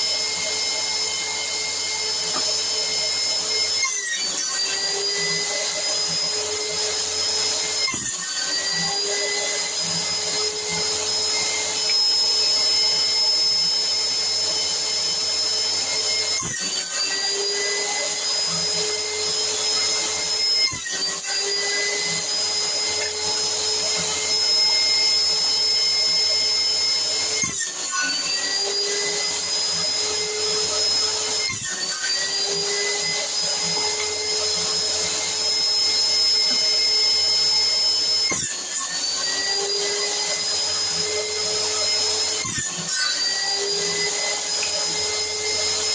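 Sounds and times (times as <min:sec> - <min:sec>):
electric saw motor whining: 0:00.0 - 0:45.9.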